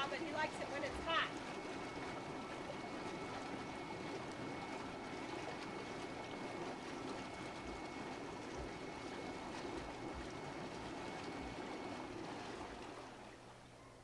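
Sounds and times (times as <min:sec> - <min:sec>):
hot tub water bubbling: 0:00.0 - 0:14.0.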